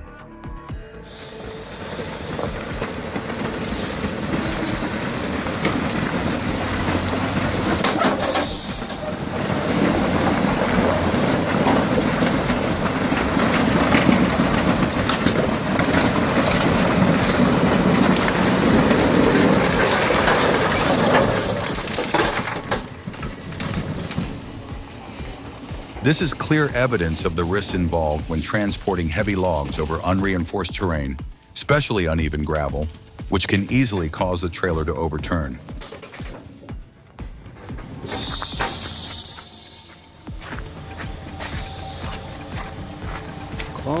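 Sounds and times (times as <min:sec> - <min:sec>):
heavy truck engine rumbling: 0:00.0 - 0:44.0.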